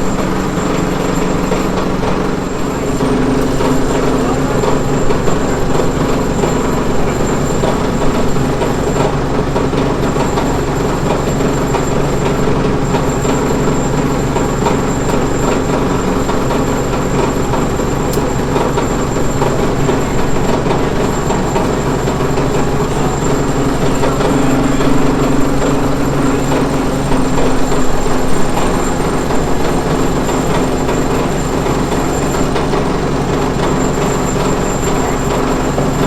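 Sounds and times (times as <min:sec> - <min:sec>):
motor humming with high whine: 0:00.0 - 0:36.0.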